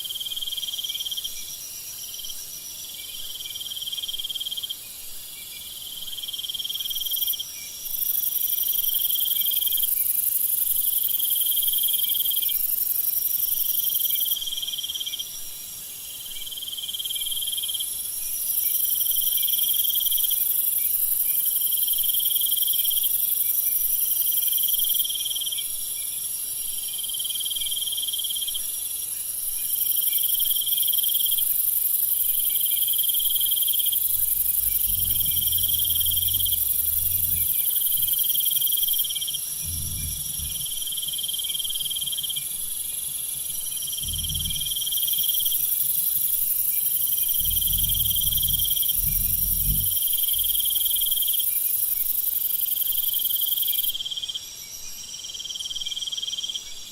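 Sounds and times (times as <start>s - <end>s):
high continuous insect trill: 0.0s - 56.9s
intermittent insect trill: 0.0s - 56.9s
lower phrased insect trill: 5.7s - 56.8s.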